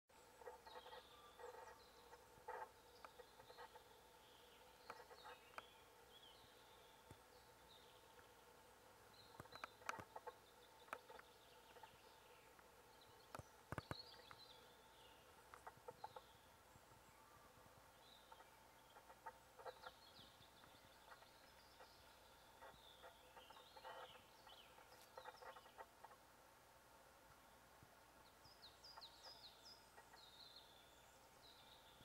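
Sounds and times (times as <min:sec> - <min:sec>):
small birds chirping: 0:00.1 - 0:26.4, 0:27.1 - 0:32.0.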